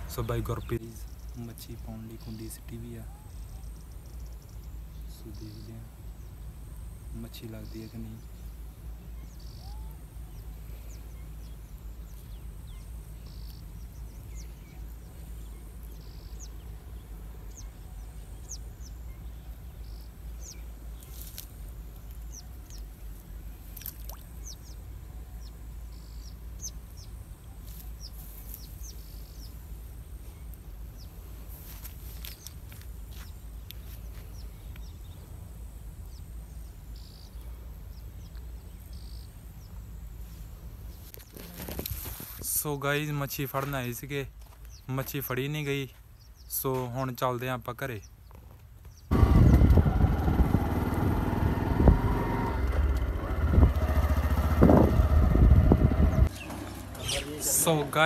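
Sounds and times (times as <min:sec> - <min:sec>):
low outdoor rumble: 0:00.0 - 0:41.8, 0:49.0 - 0:58.0
birds chirping: 0:00.0 - 0:58.0.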